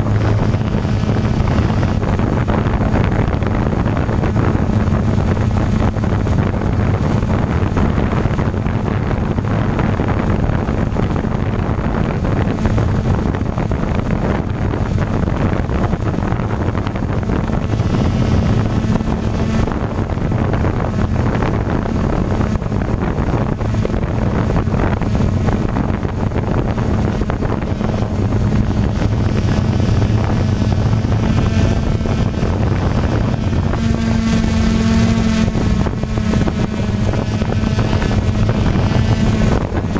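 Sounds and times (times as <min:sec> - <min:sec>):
rc aircraft motor hum: 0:00.0 - 0:39.9
wind noise on microphone: 0:00.0 - 0:39.9.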